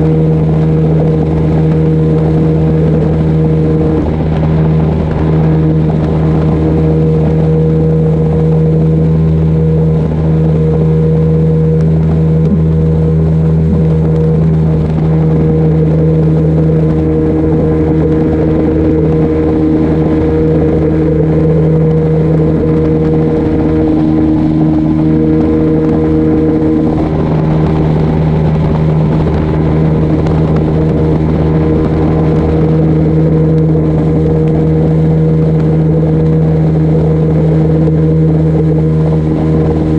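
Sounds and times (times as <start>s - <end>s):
outboard motor running: 0.0s - 39.9s
wind and water rushing: 0.0s - 39.9s.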